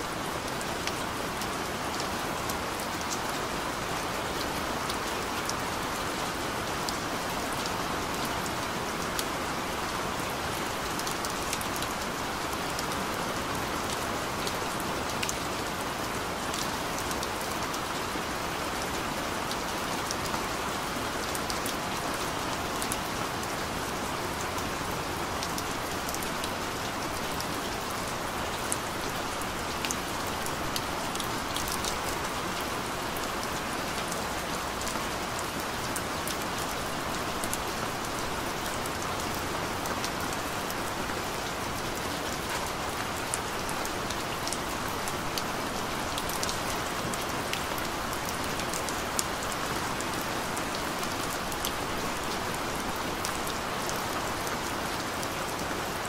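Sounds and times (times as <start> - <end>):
gentle rain hiss: 0.0 - 56.0.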